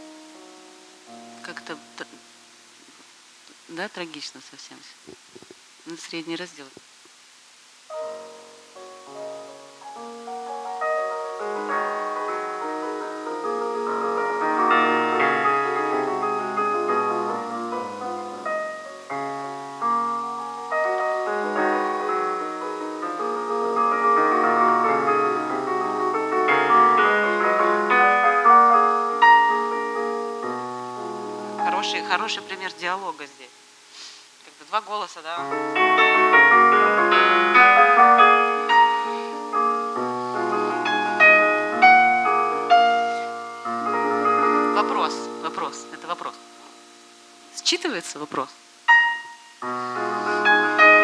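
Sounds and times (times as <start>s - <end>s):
grand piano playing: 0.0s - 2.7s, 7.9s - 33.5s, 35.4s - 51.0s.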